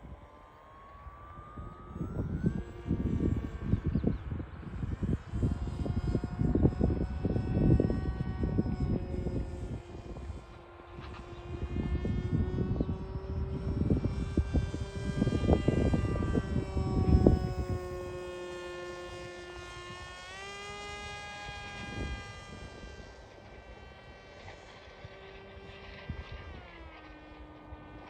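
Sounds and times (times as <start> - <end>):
model plane motor whining: 0.0 - 28.0
wind buffeting microphone: 0.0 - 28.0.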